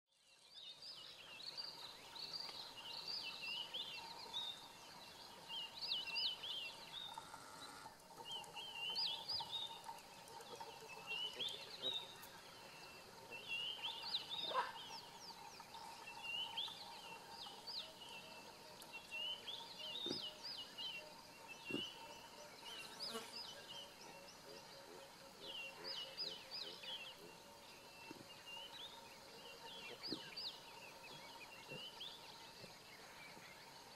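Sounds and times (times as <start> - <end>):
birds chirping and trilling: 0.2 - 33.9.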